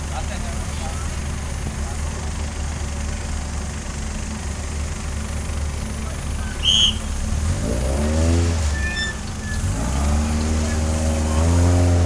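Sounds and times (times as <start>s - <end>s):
buggy engine idling and revving: 0.0s - 12.0s.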